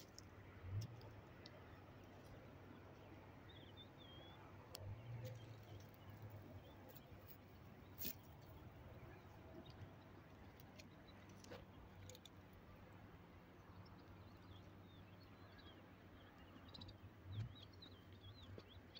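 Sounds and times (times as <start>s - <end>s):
faint birds chirping: 0.0s - 18.9s.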